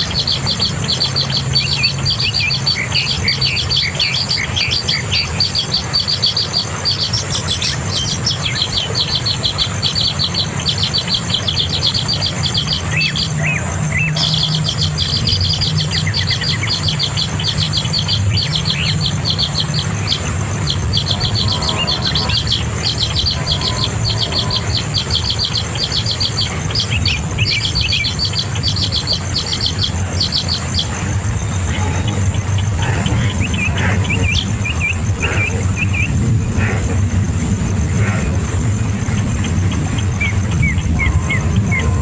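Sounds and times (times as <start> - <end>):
bird chirping rapidly: 0.0 - 42.0
steady low rumble: 0.0 - 42.0.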